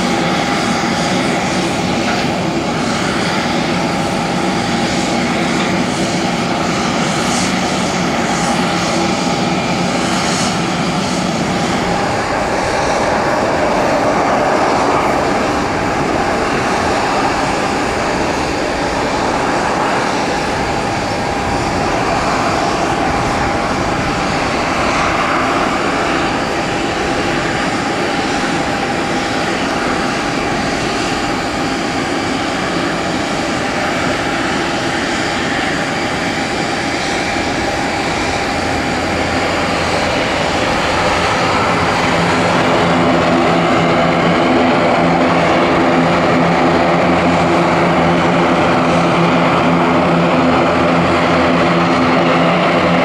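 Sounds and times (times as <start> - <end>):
aircraft engines running: 0.0 - 53.0.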